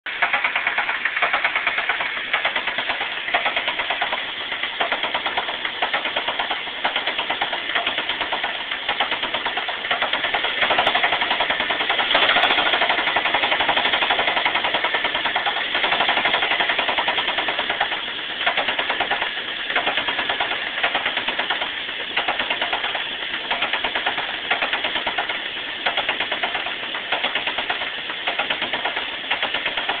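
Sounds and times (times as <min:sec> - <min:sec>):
car engine running: 0:00.1 - 0:30.0
fast even engine ticking: 0:00.1 - 0:30.0.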